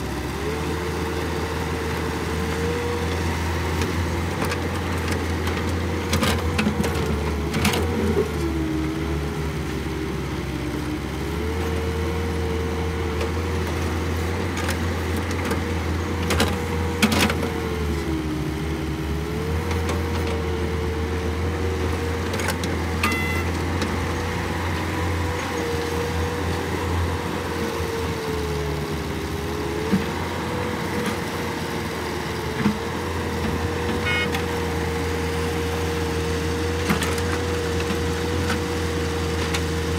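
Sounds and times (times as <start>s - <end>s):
excavator diesel engine with whine: 0.0s - 39.9s.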